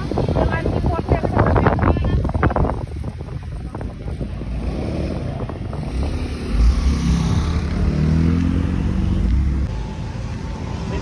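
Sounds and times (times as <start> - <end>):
wind rumbling on microphone: 0.0 - 9.8
motorcycle engine: 0.0 - 11.0.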